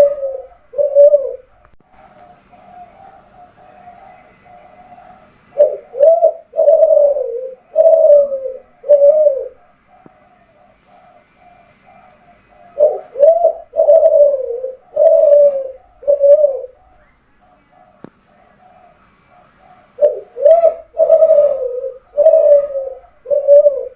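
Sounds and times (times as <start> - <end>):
dove cooing: 0.0 - 23.9
faint dove coos: 0.0 - 23.9.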